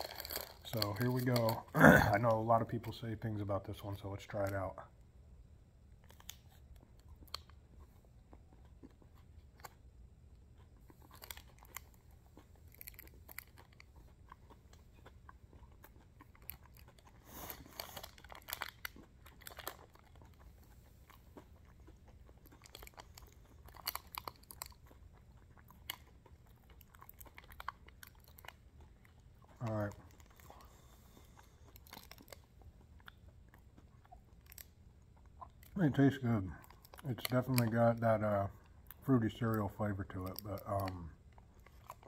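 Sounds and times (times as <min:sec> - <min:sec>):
faint crunching of chewing: 0:00.0 - 0:42.0
low steady hum: 0:00.0 - 0:42.0.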